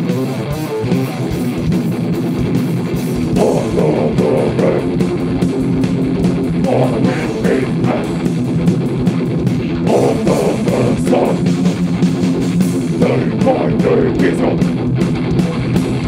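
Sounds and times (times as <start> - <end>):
fast drumming: 0.0 - 16.0
heavy rock band playing: 0.0 - 16.0.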